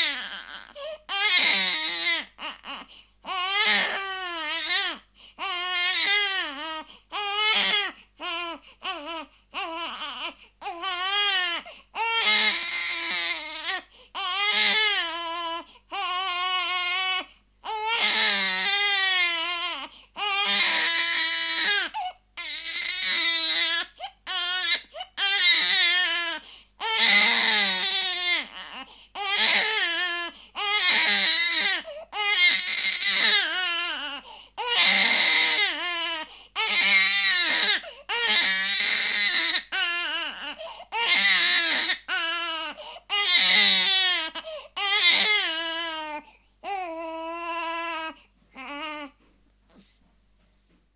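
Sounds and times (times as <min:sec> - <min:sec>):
infant crying: 0:00.0 - 0:49.2.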